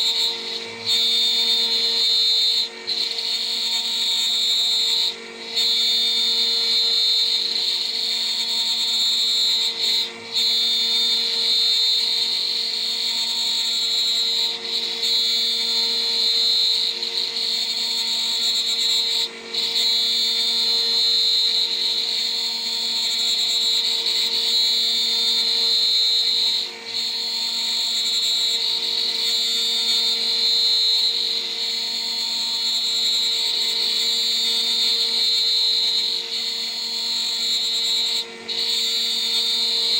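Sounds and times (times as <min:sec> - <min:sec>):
router spindle milling with high whine: 0:00.0 - 0:39.9.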